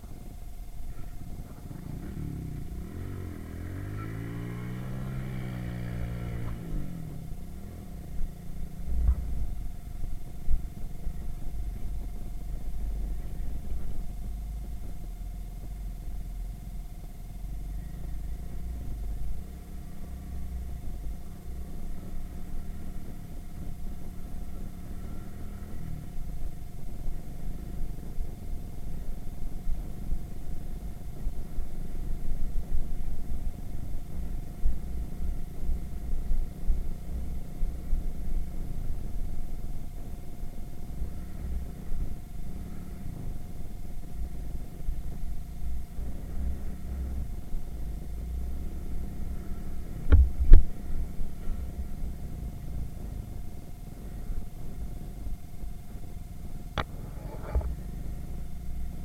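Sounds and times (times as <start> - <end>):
moped engine rumble: 0.0 - 59.0.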